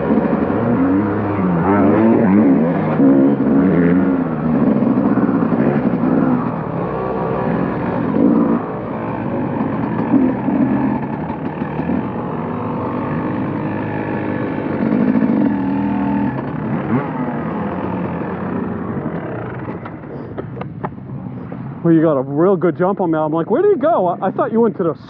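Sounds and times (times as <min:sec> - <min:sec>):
motocross bike engine revving: 0:00.0 - 0:20.1.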